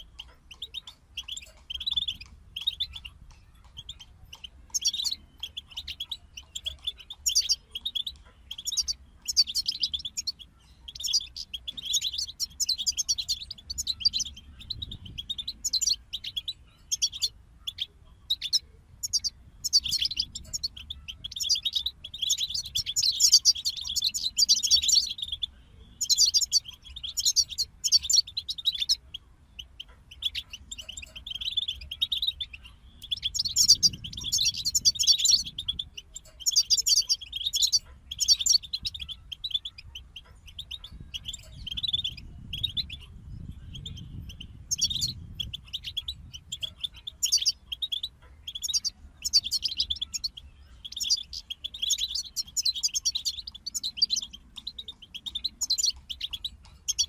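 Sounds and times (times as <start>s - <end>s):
goldfinch twittering song: 0.0s - 57.0s.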